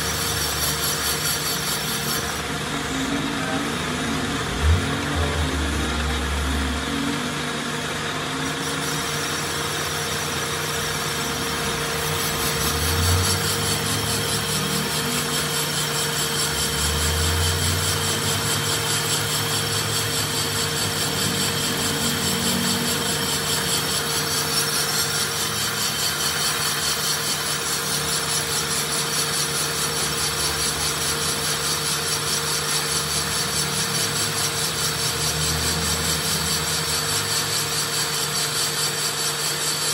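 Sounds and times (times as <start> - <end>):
metal lathe humming: 0.0 - 39.9.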